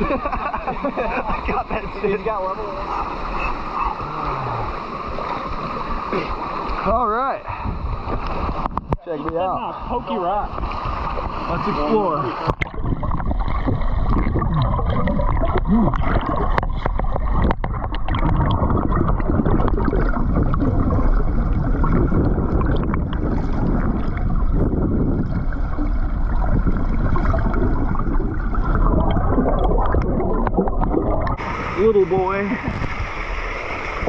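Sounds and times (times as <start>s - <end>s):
creek water gurgling: 0.0s - 34.0s.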